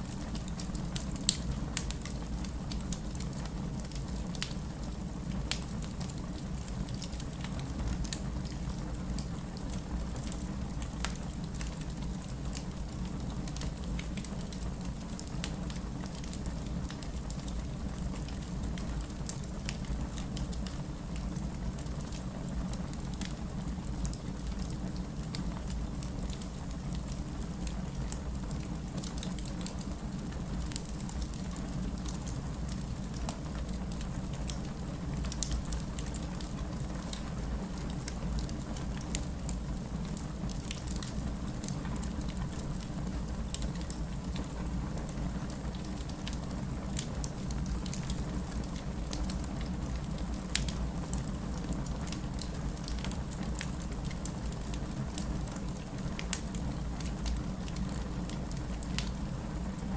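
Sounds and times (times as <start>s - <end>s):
wood fire rumbling: 0.0s - 59.9s
logs crackling and popping: 0.2s - 59.9s.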